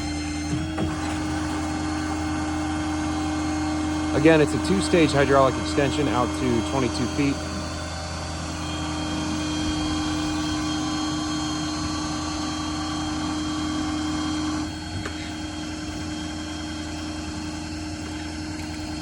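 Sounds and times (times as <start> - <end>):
diesel engine running: 0.0 - 19.0
hydraulic whine: 0.0 - 19.0.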